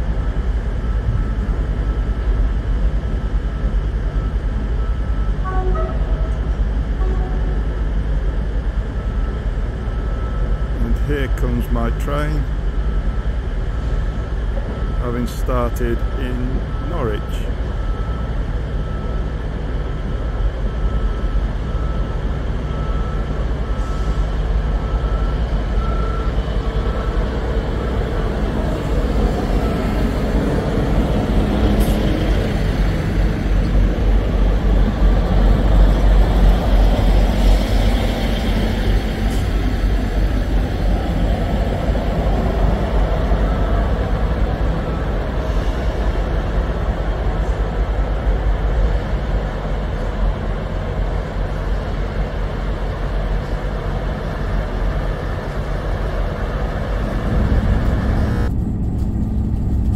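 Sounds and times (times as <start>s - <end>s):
diesel train rumbling: 0.0s - 59.9s.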